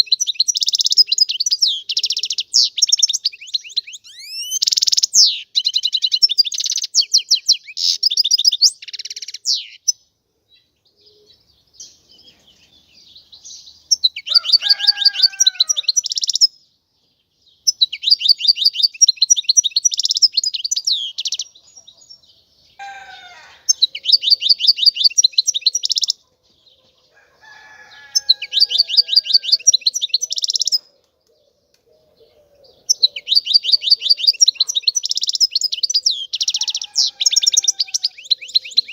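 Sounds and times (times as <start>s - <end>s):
finch singing trills: 0.0s - 10.0s, 10.6s - 16.6s, 17.6s - 22.2s, 22.8s - 26.6s, 28.0s - 31.5s, 32.1s - 38.9s.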